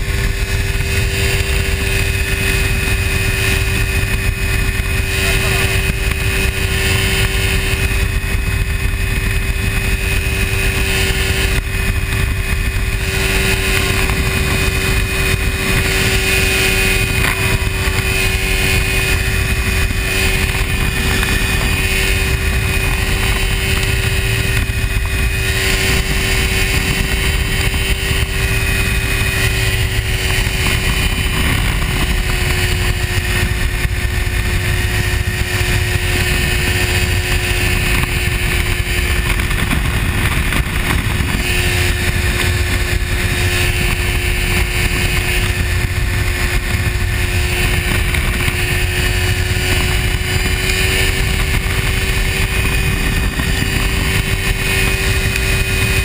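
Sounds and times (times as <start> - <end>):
airplane engine and propeller drone: 0.0 - 56.0
wind rush: 0.0 - 56.0.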